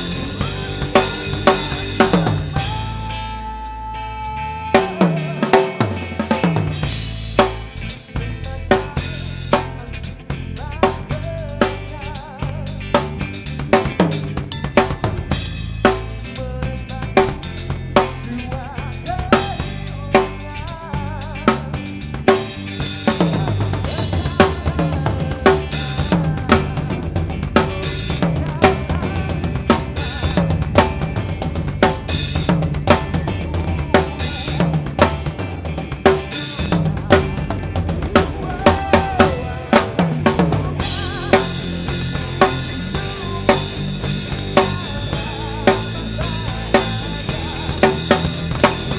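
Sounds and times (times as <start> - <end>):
band music with bass line: 0.0 - 48.9
drum kit groove: 0.0 - 48.9.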